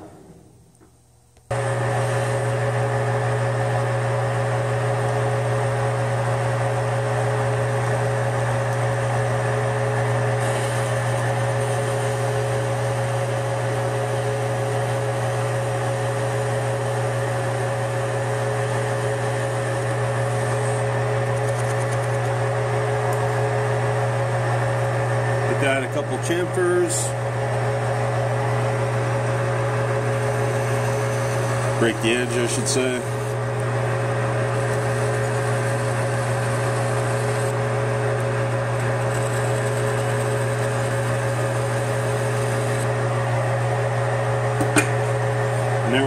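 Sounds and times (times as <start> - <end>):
lathe motor humming: 1.5 - 46.0.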